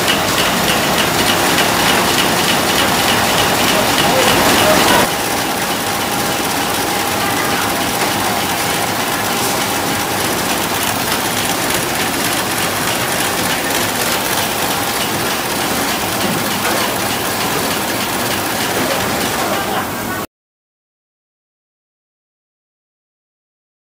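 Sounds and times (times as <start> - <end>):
packing machine clattering: 0.0 - 19.9.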